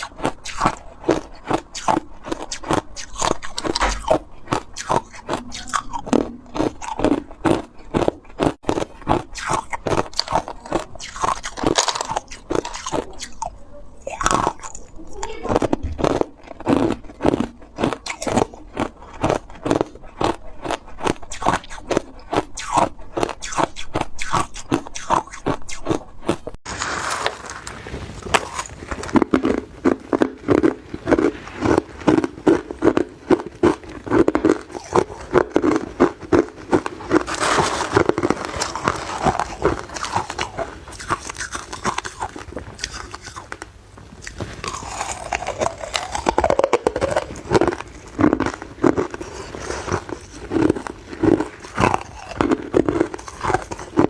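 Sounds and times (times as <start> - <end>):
person chewing ice: 0.0 - 54.0.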